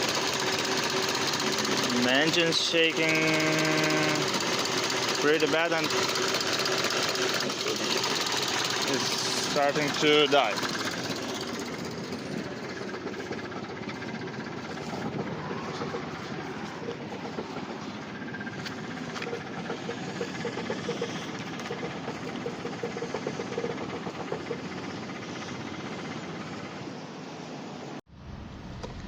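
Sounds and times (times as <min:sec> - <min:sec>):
car engine idling roughly: 0:00.0 - 0:26.9.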